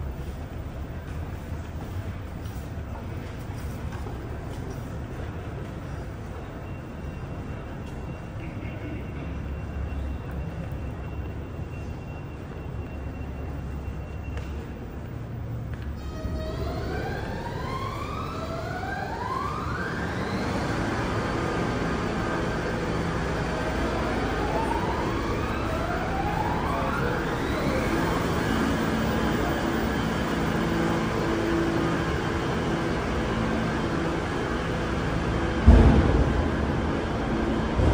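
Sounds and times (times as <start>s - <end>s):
wheels rumbling on rail: 0.0s - 37.9s.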